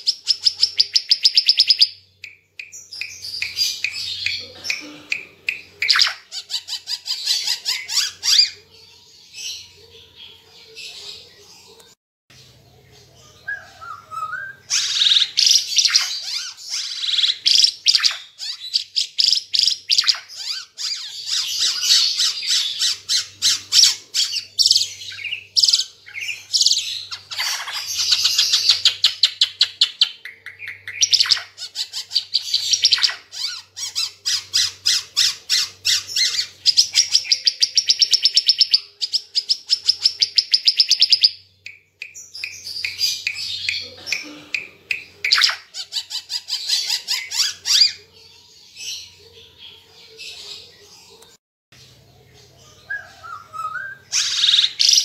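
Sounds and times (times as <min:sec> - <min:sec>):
songbird chirping and trilling: 0:00.0 - 0:55.0.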